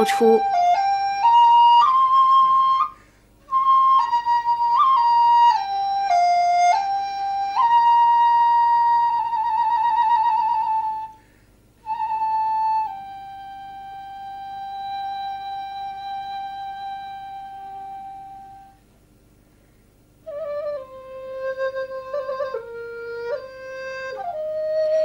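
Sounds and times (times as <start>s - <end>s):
solo flute melody: 0.0s - 11.2s, 11.8s - 18.8s, 20.2s - 25.0s.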